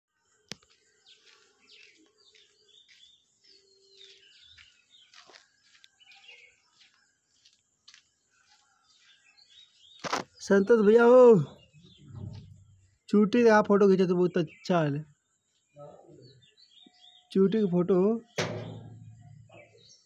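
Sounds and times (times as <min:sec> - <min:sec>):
small birds chirping: 0:00.2 - 0:20.0.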